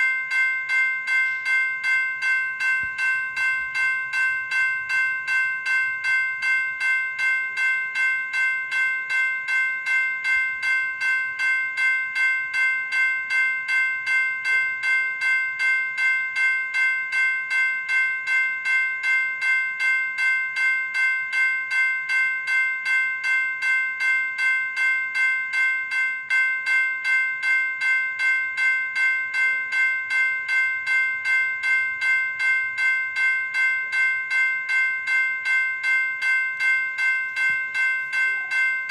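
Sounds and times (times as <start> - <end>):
railroad crossing bell ringing: 0.0 - 38.9.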